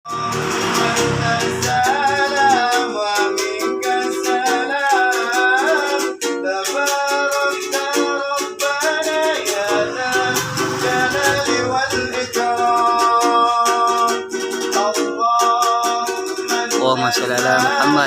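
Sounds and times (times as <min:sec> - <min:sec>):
strummed string instrument: 0:00.1 - 0:18.0.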